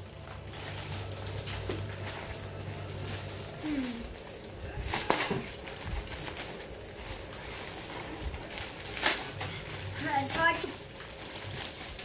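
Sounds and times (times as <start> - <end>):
paper and plastic bags rustling: 0.0 - 12.0.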